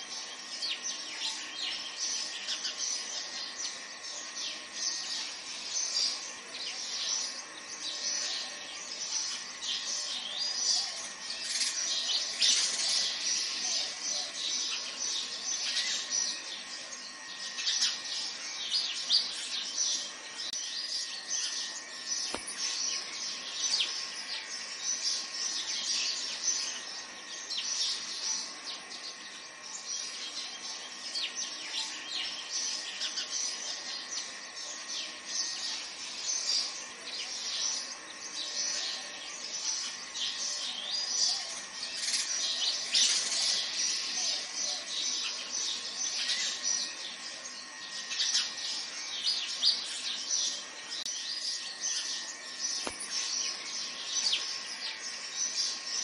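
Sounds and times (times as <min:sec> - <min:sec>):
many birds chirping: 0:00.0 - 0:56.0.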